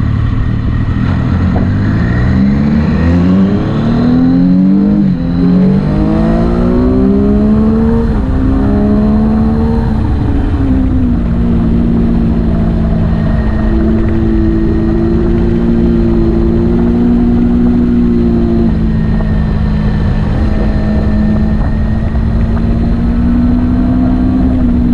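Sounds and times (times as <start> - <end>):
constant low rumble: 0.0 - 24.9
motorcycle engine shifting gears: 0.0 - 24.9.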